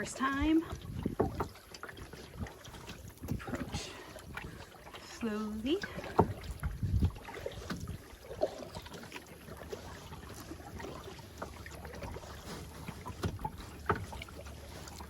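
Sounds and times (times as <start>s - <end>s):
paddle splashing and dripping: 0.0s - 15.0s.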